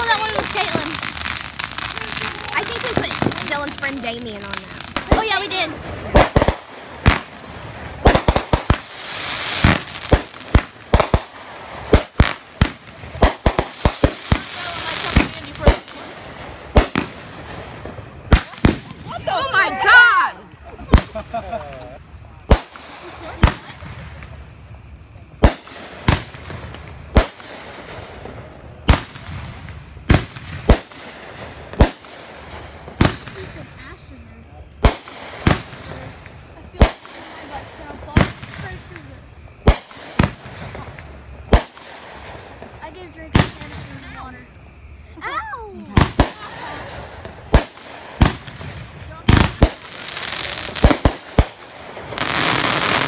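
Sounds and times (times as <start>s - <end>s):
fireworks bangs: 0.0s - 53.0s
fireworks hissing crackle: 0.0s - 53.0s.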